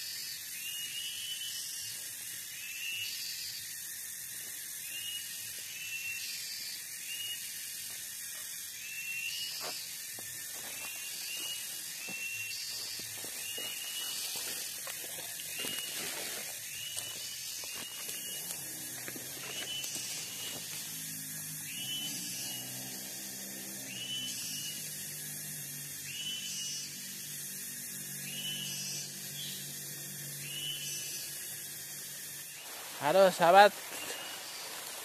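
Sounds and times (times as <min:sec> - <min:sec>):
insects hissing: 0:00.0 - 0:35.0.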